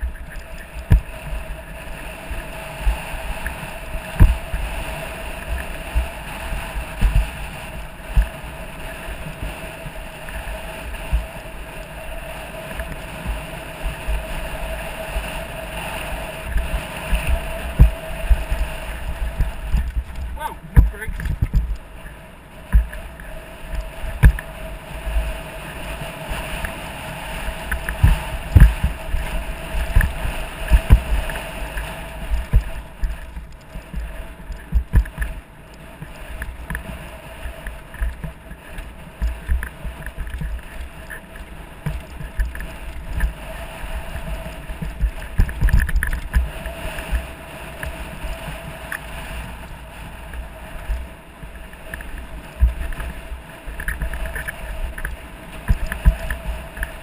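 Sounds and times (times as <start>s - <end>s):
bike knocking and rattling: 0.0s - 10.4s, 16.4s - 24.6s, 27.6s - 57.0s
wind on microphone: 0.0s - 57.0s.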